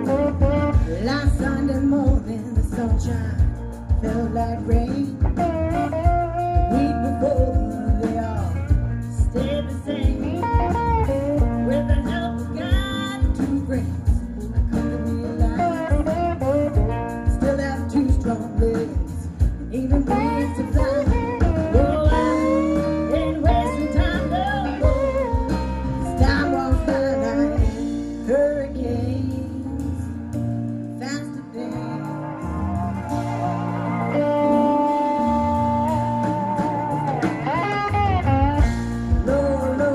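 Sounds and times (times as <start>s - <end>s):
guitar: 0.0s - 39.9s
person singing: 0.0s - 39.9s.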